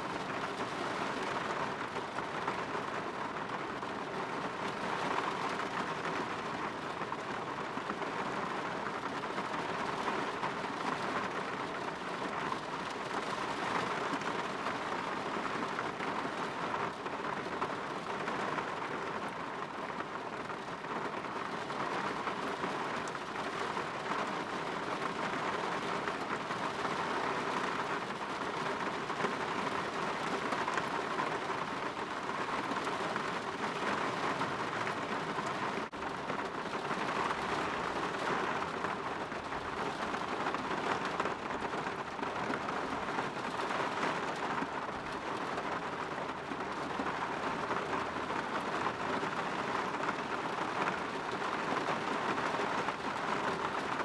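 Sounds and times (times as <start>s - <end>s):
rain falling on a window: 0.0s - 54.0s.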